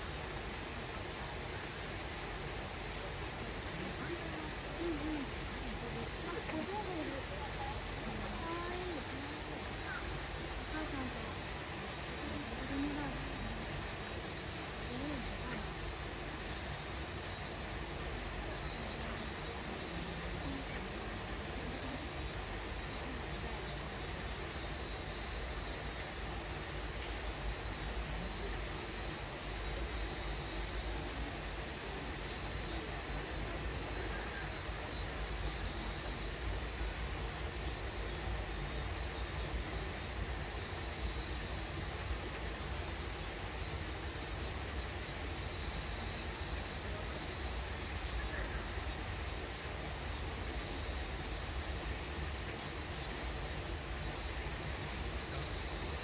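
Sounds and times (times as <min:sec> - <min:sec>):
insect chorus pulsing: 0:00.0 - 0:56.0.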